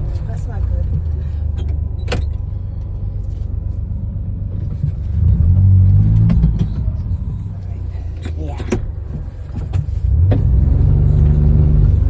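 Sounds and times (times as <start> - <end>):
vehicle driving rumble: 0.0 - 12.0.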